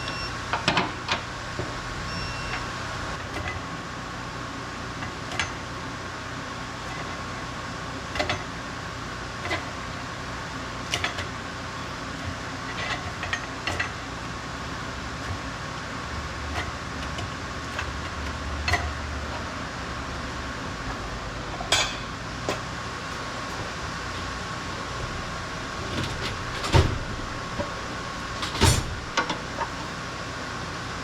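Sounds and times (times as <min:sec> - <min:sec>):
workshop hum: 0:00.0 - 0:31.0.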